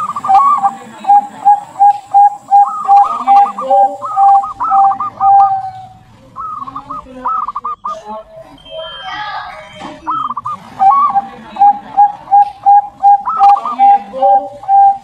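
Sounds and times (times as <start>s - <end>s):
dove cooing: 0.0s - 8.9s, 10.0s - 15.0s
higher curling bird phrases: 0.0s - 15.0s.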